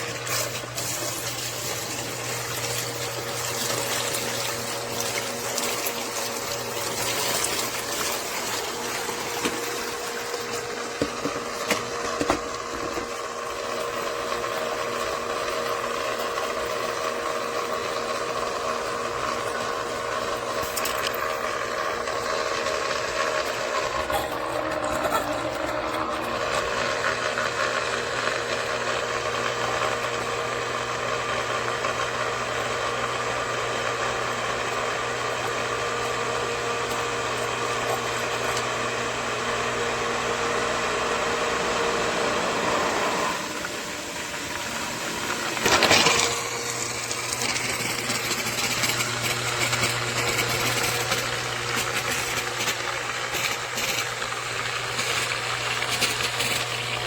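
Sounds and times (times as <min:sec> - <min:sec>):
sump pump motor humming: 0:00.0 - 0:57.0.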